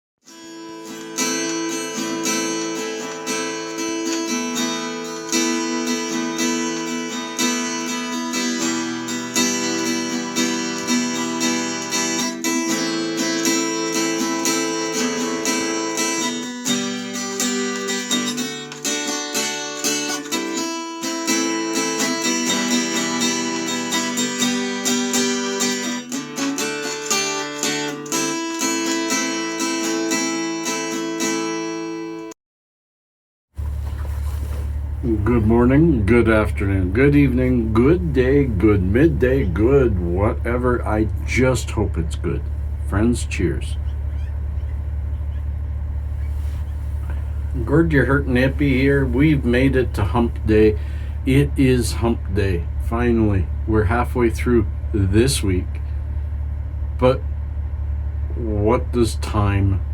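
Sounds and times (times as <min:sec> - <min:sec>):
strummed acoustic guitar: 0:00.2 - 0:32.3, 0:33.6 - 0:59.9.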